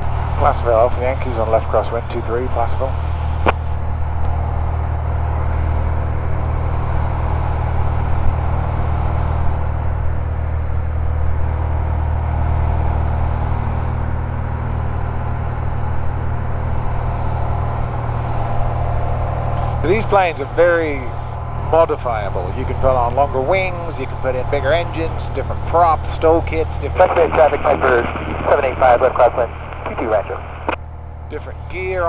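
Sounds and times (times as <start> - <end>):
aircraft engine and propeller drone: 0.0 - 32.0.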